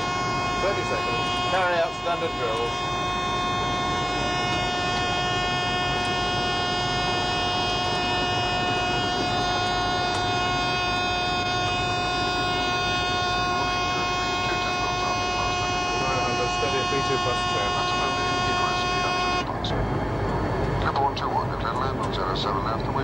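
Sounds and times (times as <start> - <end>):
steady high tones: 0.0 - 20.5
simulated engine and airflow noise: 0.0 - 23.0.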